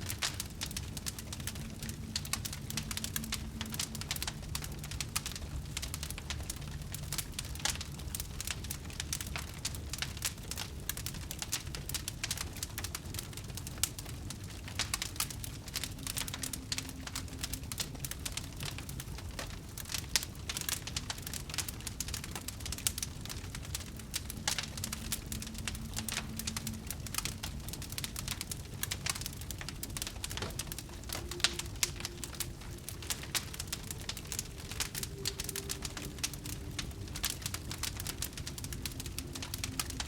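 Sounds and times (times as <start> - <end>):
fire crackling and popping: 0.0 - 40.0
fire flames rumbling: 0.0 - 40.0.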